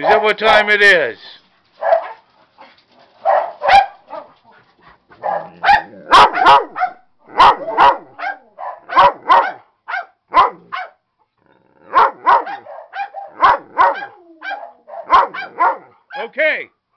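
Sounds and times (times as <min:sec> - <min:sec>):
large dog barking and yowling: 0:01.7 - 0:11.0, 0:11.8 - 0:16.3.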